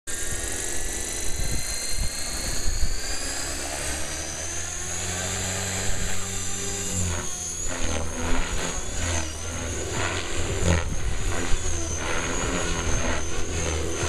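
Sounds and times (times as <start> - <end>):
low rotor hum: 0.1 - 14.0
motor and gear whine: 0.1 - 14.0.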